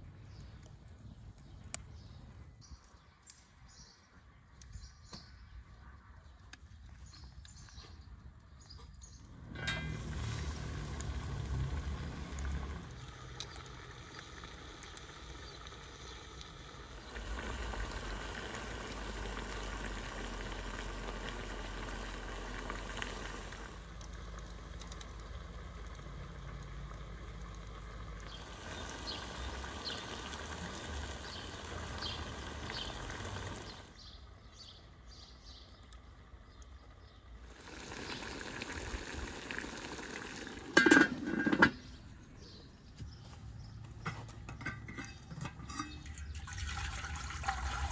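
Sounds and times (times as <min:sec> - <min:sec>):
stew simmering: 0:05.8 - 0:34.0, 0:35.8 - 0:42.7, 0:43.5 - 0:47.9.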